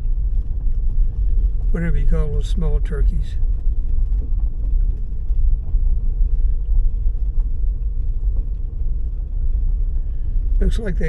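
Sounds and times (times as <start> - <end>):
car engine and road rumble: 0.0 - 11.0
faint steady hum: 0.0 - 11.0.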